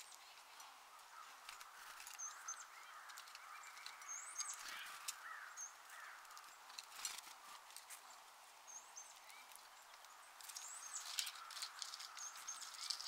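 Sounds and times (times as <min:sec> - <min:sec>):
songbird call notes: 0:00.0 - 0:07.6, 0:08.6 - 0:13.0.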